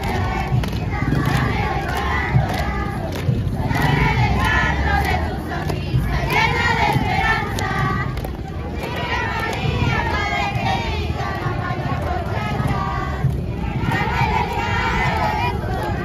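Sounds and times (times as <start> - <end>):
crowd hubbub: 0.0 - 16.0
crowd singing in chorus: 0.0 - 16.0.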